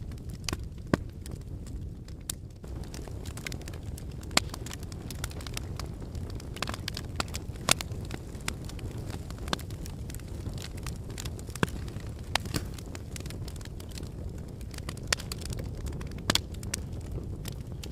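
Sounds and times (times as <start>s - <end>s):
fire crackles and pops: 0.0s - 17.9s
low rumble of flame: 0.0s - 17.9s.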